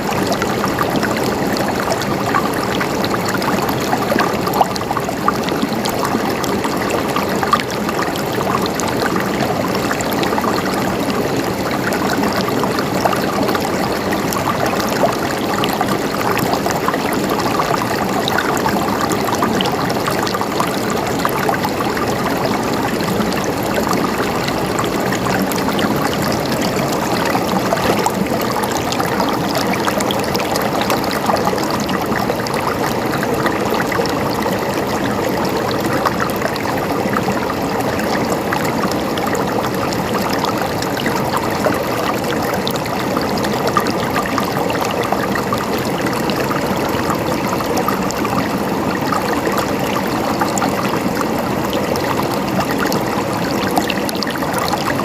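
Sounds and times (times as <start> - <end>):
stream gurgling: 0.0 - 55.0.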